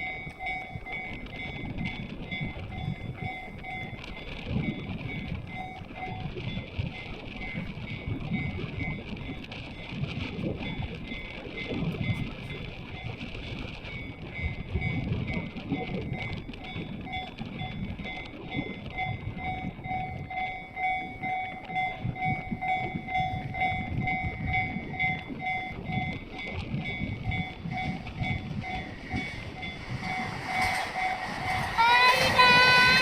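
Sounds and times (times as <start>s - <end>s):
level-crossing alarm ringing: 0.0s - 9.8s, 10.6s - 13.2s, 13.9s - 33.0s
wind buffeting microphone: 0.0s - 33.0s.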